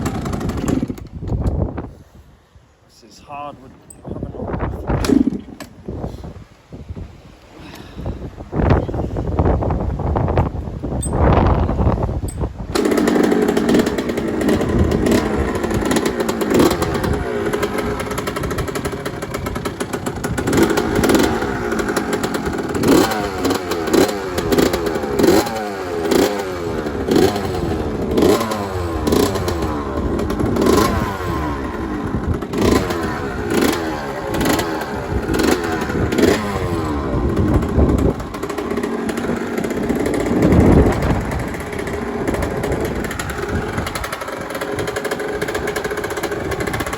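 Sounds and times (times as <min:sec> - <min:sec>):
two-stroke motorcycle engine revving: 0:00.0 - 0:01.2, 0:05.0 - 0:05.6, 0:11.0 - 0:46.9.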